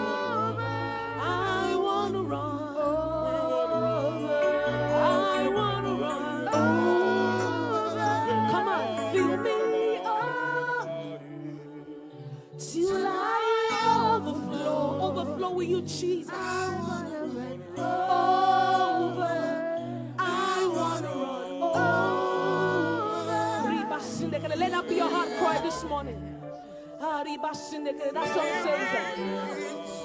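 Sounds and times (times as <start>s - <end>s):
worship team singing: 0.0s - 30.0s.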